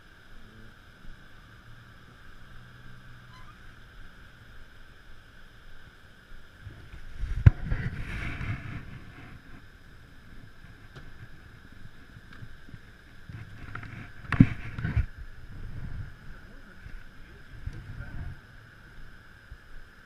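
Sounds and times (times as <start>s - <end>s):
low rumbling: 0.0s - 20.0s.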